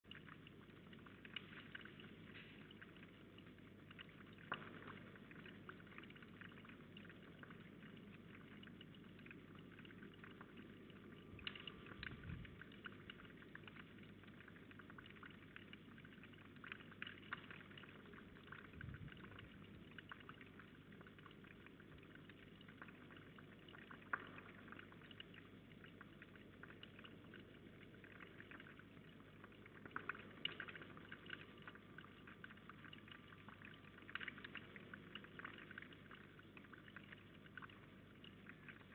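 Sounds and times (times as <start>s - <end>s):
water drips: 0.0s - 38.9s
water trickling: 0.0s - 38.9s.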